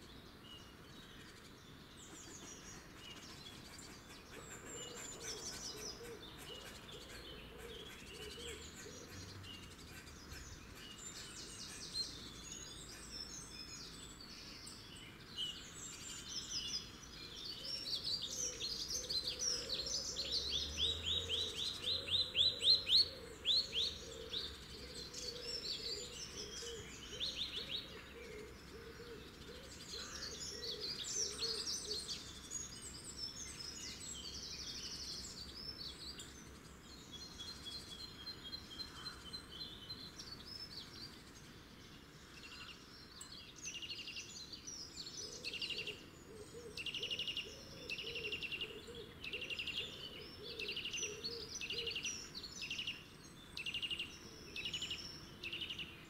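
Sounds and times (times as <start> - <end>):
birds singing and calling: 0.0 - 56.0
outdoor background hiss: 0.0 - 56.0.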